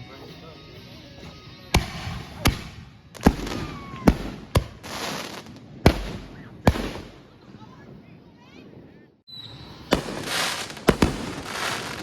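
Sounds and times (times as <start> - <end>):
fireworks bangs: 1.8 - 12.0
fireworks crackling: 1.8 - 12.0.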